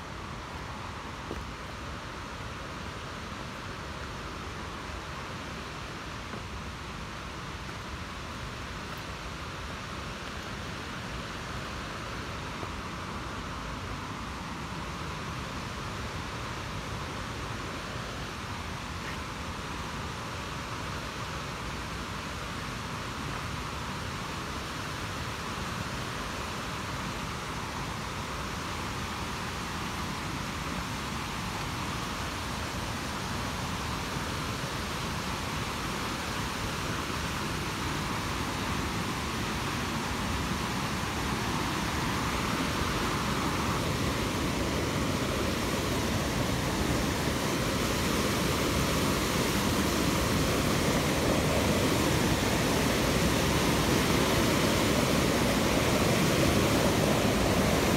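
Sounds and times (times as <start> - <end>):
flowing water rushing: 0.0 - 57.9.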